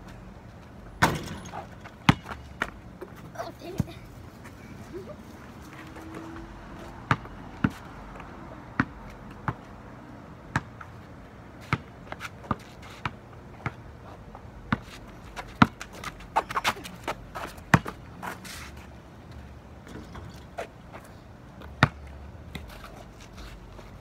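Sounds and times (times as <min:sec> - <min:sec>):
basketball bouncing on pavement: 0:00.4 - 0:04.2, 0:05.6 - 0:09.8, 0:10.4 - 0:18.5, 0:19.3 - 0:23.0.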